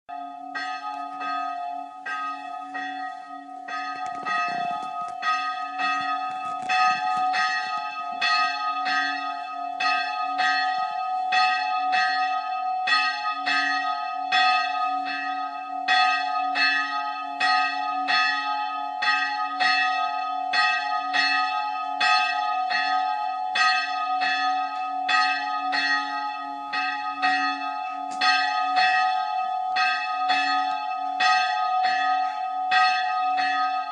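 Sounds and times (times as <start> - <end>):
church bell ringing: 0.1 - 33.9.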